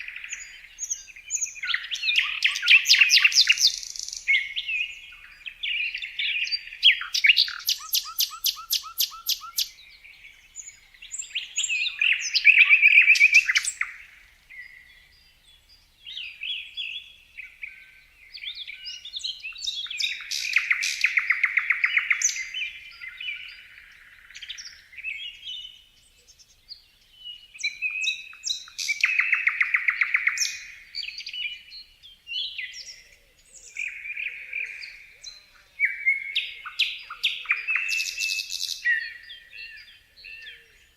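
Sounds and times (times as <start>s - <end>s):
soft bird chirps: 0.0s - 40.9s
songbird singing trills: 0.0s - 40.9s.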